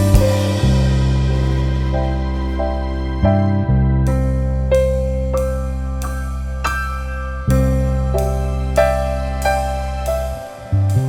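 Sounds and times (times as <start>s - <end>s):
piano note: 0.0s - 11.0s
soft keyboard chords: 0.0s - 11.0s.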